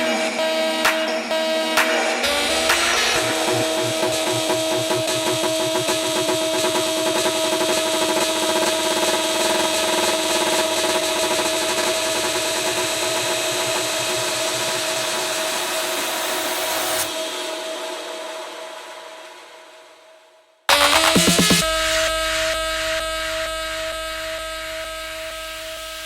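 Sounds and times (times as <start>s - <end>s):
minimal techno synth music: 0.0s - 15.8s, 20.7s - 26.0s.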